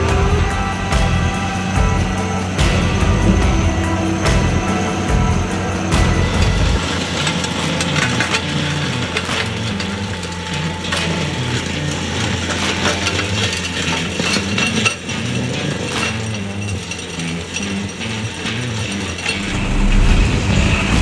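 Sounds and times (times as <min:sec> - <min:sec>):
stone crusher humming: 0:00.0 - 0:21.0.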